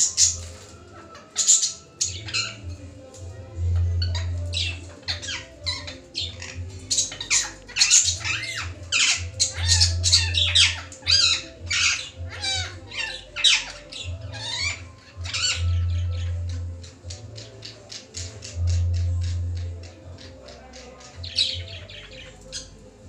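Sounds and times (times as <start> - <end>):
parakeet squawking: 0.0 - 2.8, 3.7 - 22.9
background music with bass: 1.8 - 23.0.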